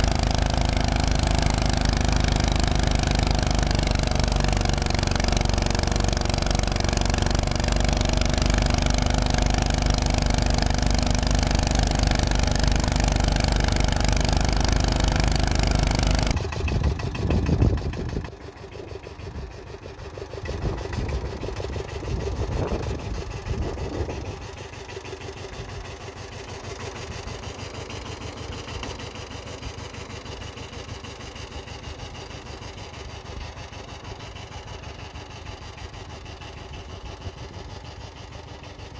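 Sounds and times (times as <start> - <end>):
loud tractor engine running: 0.0 - 38.9
quieter engine surging: 0.0 - 38.9.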